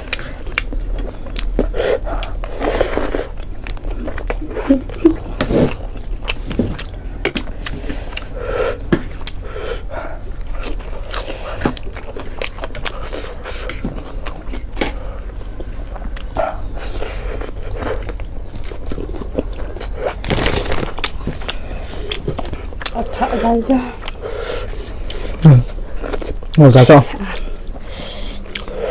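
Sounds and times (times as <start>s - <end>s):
chewing and biting: 0.0s - 28.9s.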